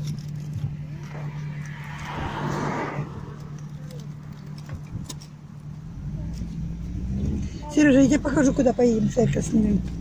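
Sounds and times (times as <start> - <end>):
car engine humming: 0.0 - 10.0.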